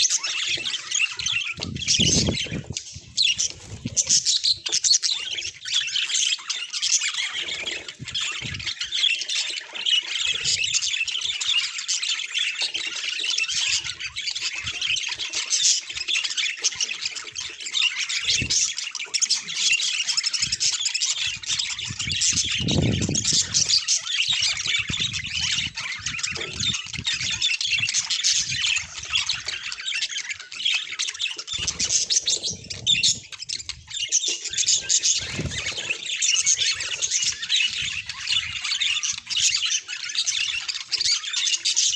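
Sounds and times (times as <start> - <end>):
budgerigars chattering: 0.0 - 41.9.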